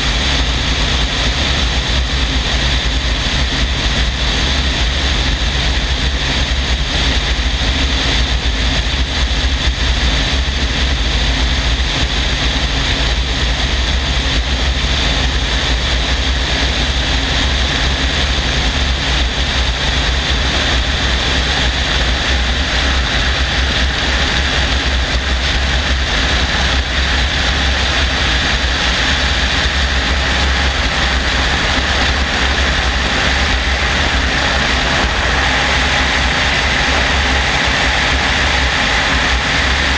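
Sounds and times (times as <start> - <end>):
helicopter rotor and engine drone: 0.0 - 39.9
wind hissing over microphone: 0.0 - 39.9.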